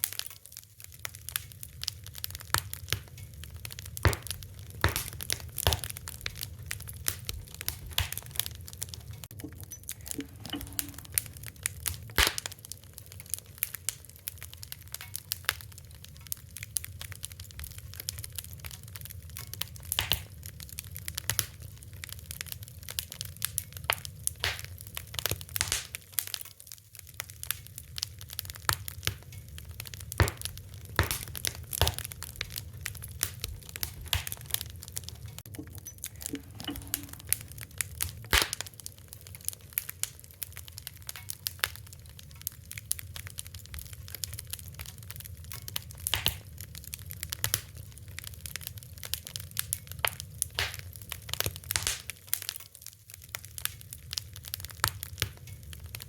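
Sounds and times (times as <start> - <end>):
low rumble of burning: 0.0 - 56.0
wood fire crackling: 0.0 - 56.0.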